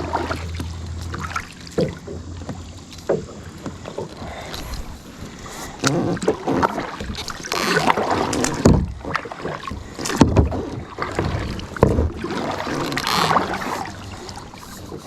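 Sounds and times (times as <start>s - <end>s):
paddle splashing through water: 0.0s - 15.0s.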